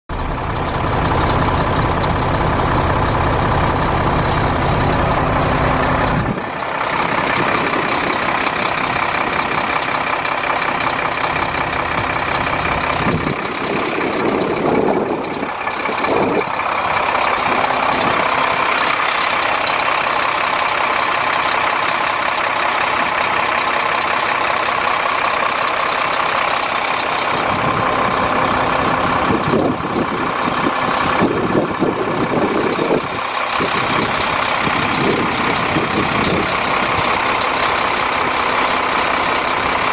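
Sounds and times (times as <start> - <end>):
diesel truck engine idling: 0.1 - 39.9.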